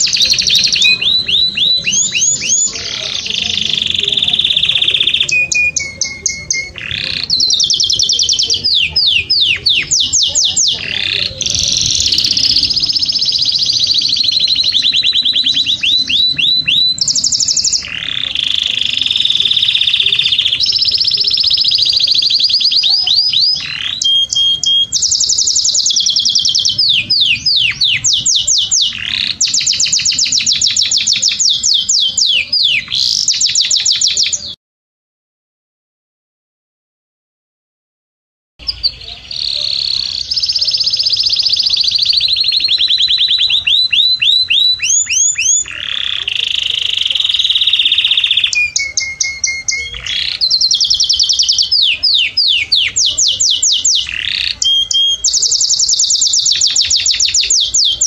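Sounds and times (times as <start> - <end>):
canary singing: 0.0 - 34.6, 38.6 - 58.0.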